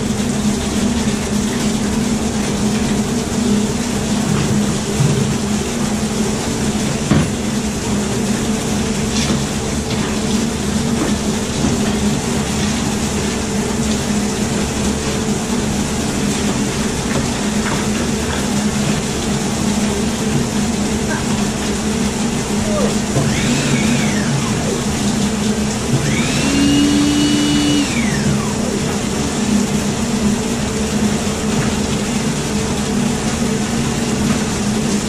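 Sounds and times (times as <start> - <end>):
drain machine running: 0.0 - 35.0.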